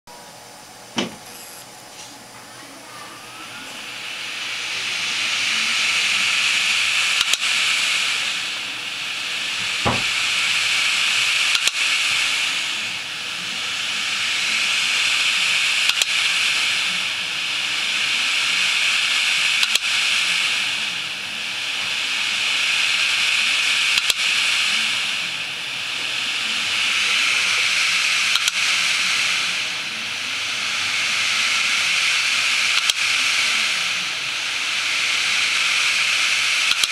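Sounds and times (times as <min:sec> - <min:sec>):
steady hiss: 0:02.0 - 0:36.9
falling whine: 0:02.3 - 0:36.9.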